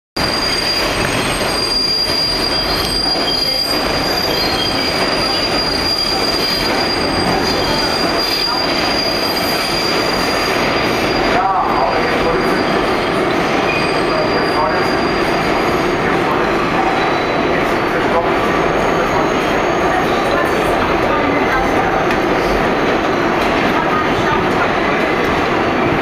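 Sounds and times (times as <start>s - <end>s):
train wheels squealing on rail: 0.2s - 26.0s.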